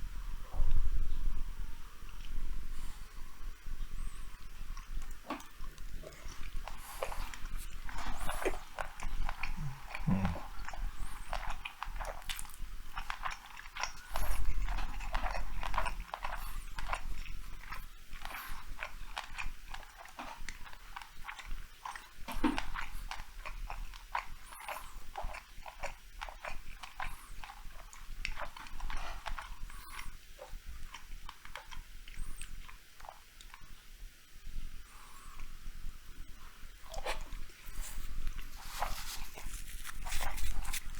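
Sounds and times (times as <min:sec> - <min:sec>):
chewing with wet mouth clicks: 0:04.0 - 0:33.8, 0:36.8 - 0:40.9.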